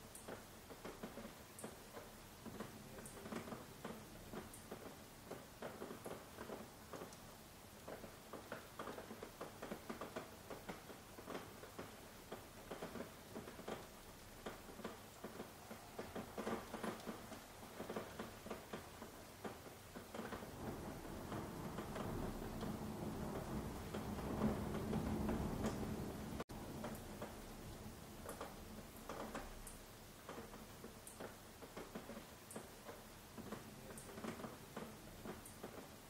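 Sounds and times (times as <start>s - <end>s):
faint rain hiss: 0.0s - 36.0s
raindrops tapping: 0.0s - 36.0s.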